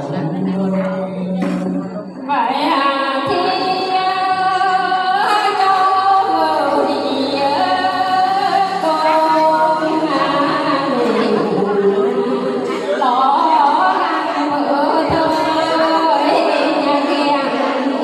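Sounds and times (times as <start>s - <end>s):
woman singing folk song: 2.3s - 18.0s.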